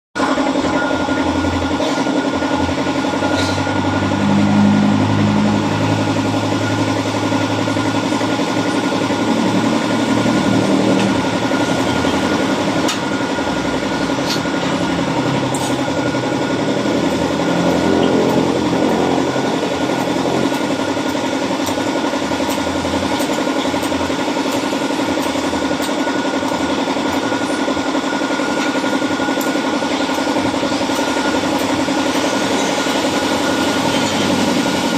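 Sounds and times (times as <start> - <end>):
motorcycle engine idling: 0.3 - 34.9.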